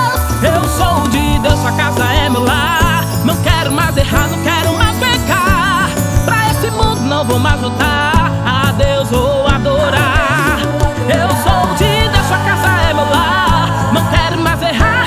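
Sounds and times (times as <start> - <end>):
band playing folk dance music: 0.0 - 15.0.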